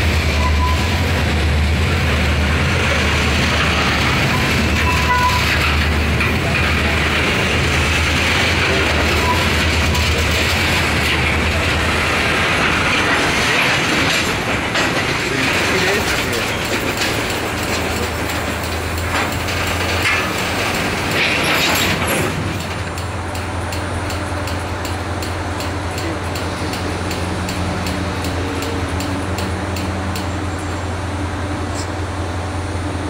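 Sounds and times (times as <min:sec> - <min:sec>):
freight cars creaking and screeching: 0:00.0 - 0:33.0.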